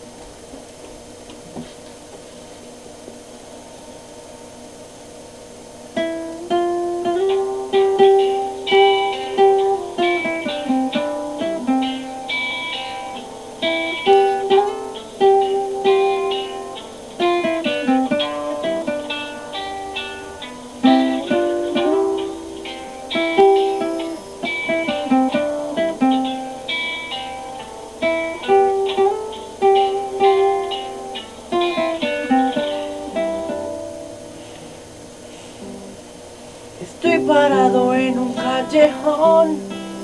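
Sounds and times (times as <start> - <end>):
faint hiss: 0.0 - 40.0
guitar picked melody: 5.9 - 40.0.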